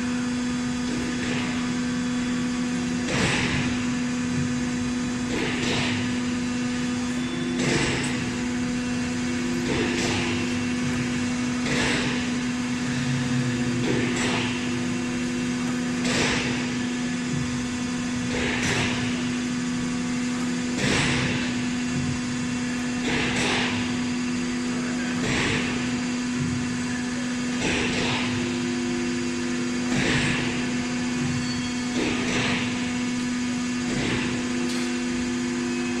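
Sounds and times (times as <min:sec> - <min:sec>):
hydraulic power unit hum: 0:00.0 - 0:36.0.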